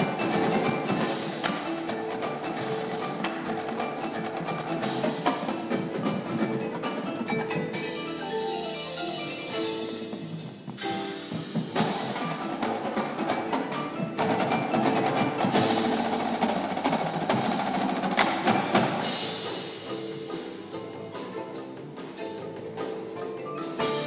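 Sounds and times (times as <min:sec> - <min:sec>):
mallet keyboards: 0:00.0 - 0:24.0
marching drumline strokes: 0:00.0 - 0:24.0.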